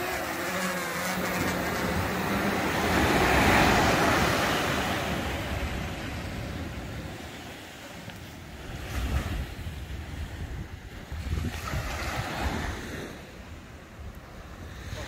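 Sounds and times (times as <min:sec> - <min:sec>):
small waves breaking on sand: 0:00.0 - 0:15.0
wind buffeting microphone: 0:00.0 - 0:15.0.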